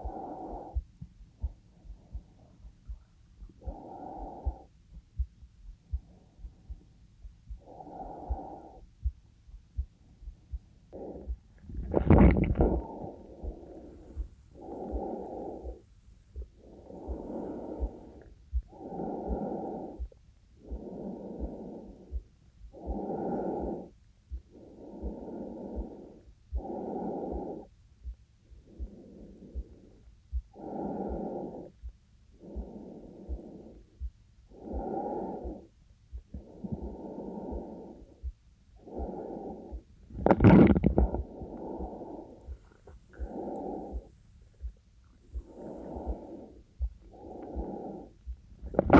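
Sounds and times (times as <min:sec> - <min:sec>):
woman breathing slowly: 0:00.0 - 0:11.9, 0:12.6 - 0:48.9
faint heartbeat thumps: 0:00.0 - 0:48.9.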